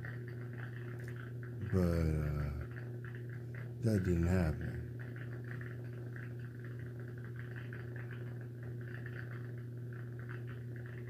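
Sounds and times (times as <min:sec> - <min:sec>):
steady low room hum: 0:00.0 - 0:11.0.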